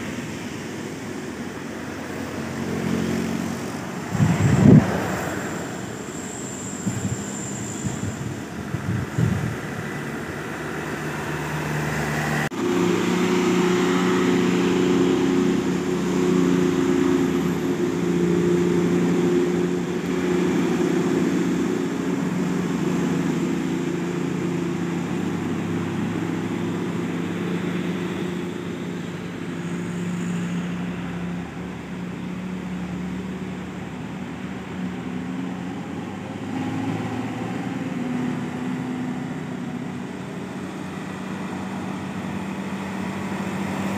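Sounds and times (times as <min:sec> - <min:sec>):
bus diesel engine drone: 0:00.0 - 0:43.9.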